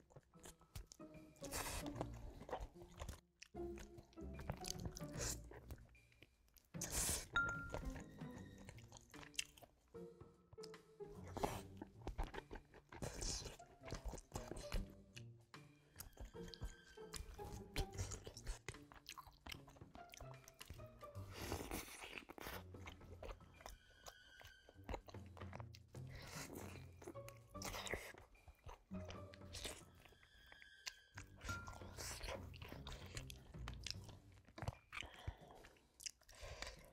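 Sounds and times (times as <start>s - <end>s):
chewing crunchy chicken: 0.0s - 9.9s, 10.5s - 36.9s
soft background music: 0.0s - 36.9s
wet mouth sounds: 0.1s - 9.8s, 10.6s - 15.4s, 16.0s - 36.9s.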